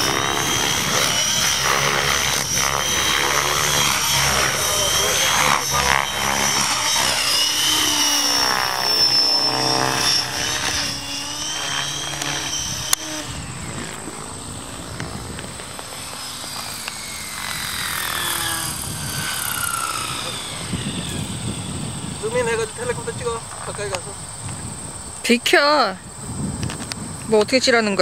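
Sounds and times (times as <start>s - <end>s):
rc helicopter rotor whine: 0.0s - 28.0s.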